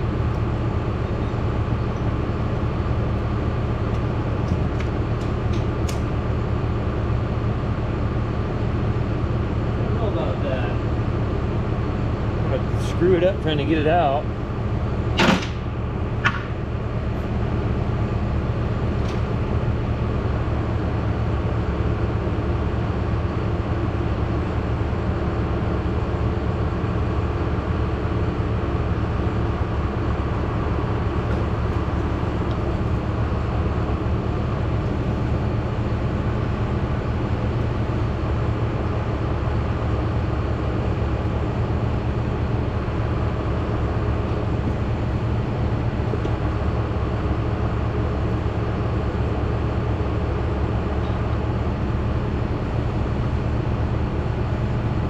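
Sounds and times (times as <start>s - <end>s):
machine rumbling: 0.0s - 55.0s.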